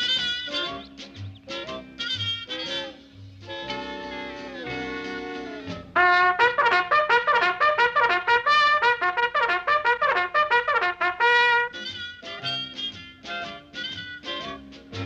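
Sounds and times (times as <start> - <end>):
cartoon music with trumpet: 0.0 - 15.0.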